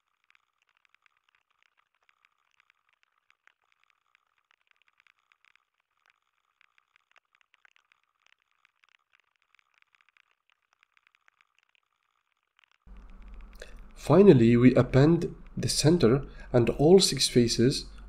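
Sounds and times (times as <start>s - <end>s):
faint keyboard typing: 0.0s - 18.0s.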